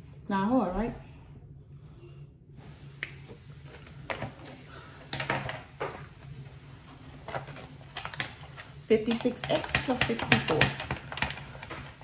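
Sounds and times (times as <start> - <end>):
low steady hum: 0.0 - 9.9.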